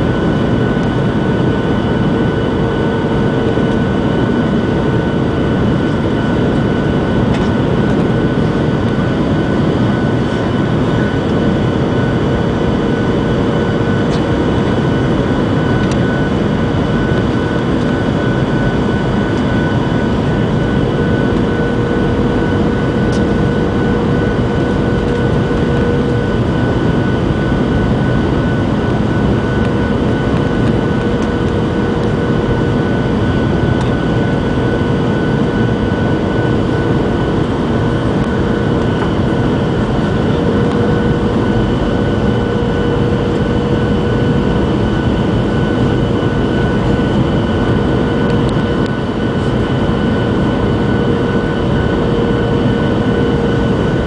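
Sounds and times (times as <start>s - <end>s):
airflow over fuselage: 0.0s - 54.0s
engine whine: 0.0s - 54.0s
jet engine roar: 0.0s - 54.0s.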